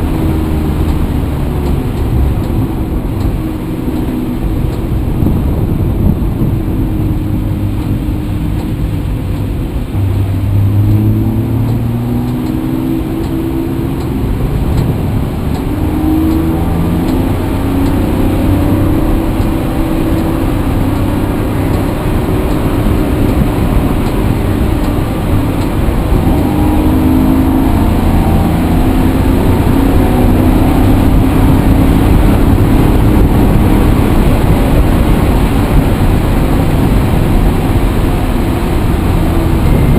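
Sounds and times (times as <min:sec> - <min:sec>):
vehicle engine accelerating: 0:00.0 - 0:39.9.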